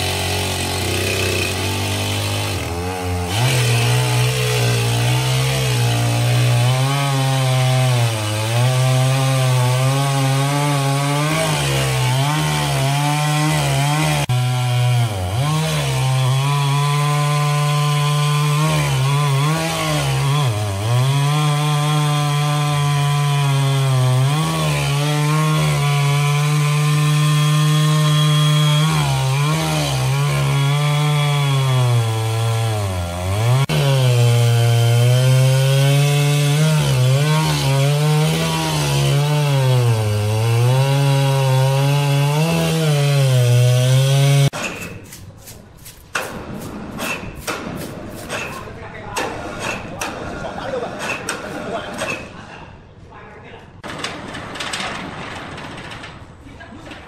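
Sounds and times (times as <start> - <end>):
chainsaw cutting log: 0.0 - 50.1.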